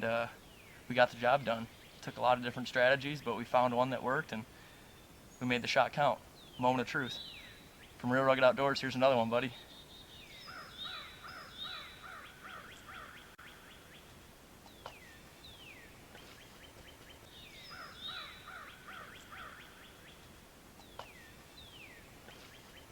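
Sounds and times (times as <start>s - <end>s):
faint songbirds singing: 0.0s - 22.9s.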